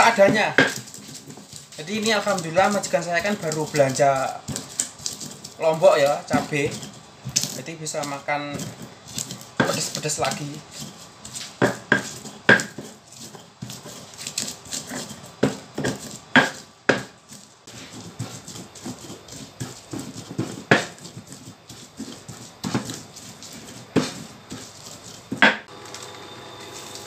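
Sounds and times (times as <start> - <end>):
pestle knocking in stone mortar: 0.0 - 25.7
stone grinding scrape: 0.0 - 25.7.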